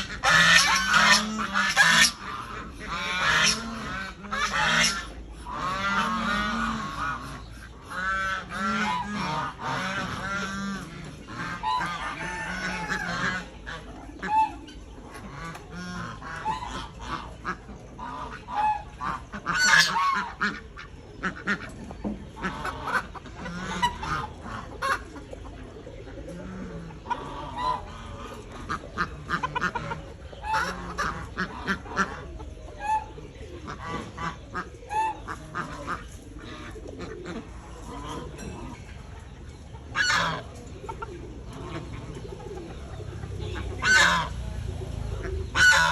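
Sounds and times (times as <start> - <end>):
poultry calling: 0.0 - 45.9.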